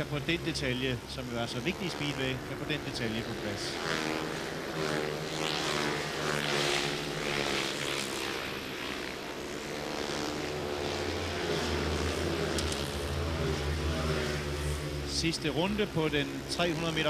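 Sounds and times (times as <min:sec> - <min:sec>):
motorcycle engines droning: 0:00.0 - 0:17.0.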